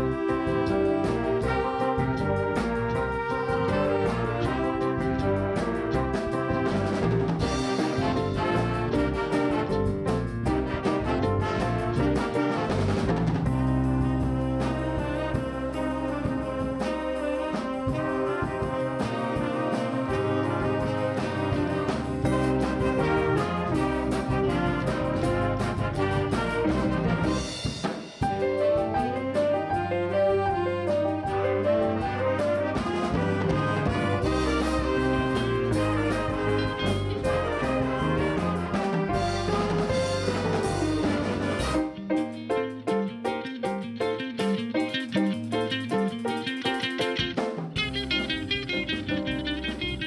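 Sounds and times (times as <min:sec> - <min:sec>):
bass line: 0:00.0 - 0:50.0
brass chords: 0:00.0 - 0:50.0
jazz band playing: 0:00.0 - 0:50.0.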